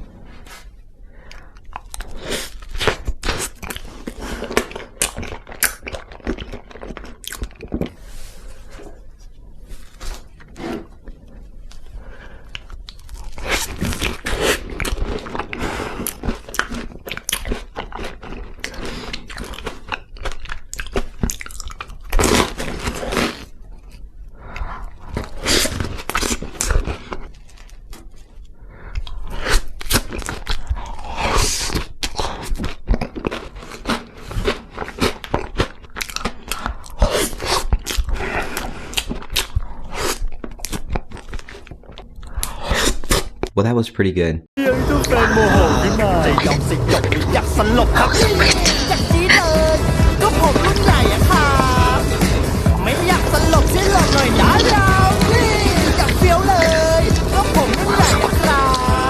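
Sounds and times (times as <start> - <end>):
crunchy chewing: 0.2 - 43.5, 46.2 - 59.0.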